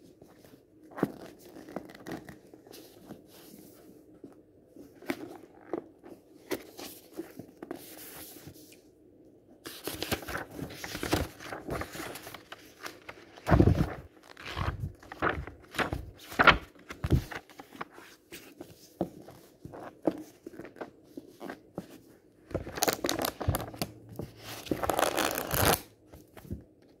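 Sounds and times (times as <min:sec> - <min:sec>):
book pages riffling: 0:00.2 - 0:08.7, 0:09.7 - 0:26.6.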